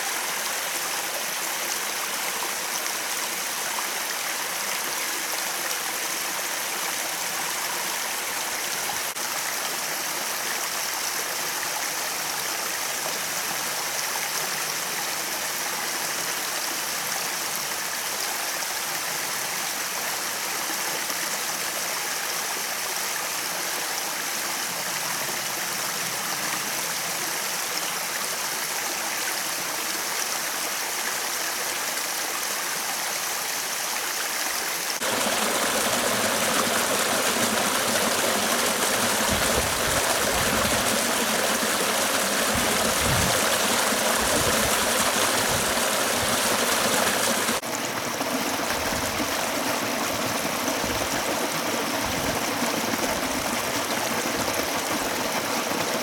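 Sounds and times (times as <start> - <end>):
waterfall rushing and splashing: 0.0 - 19.3, 29.6 - 56.0.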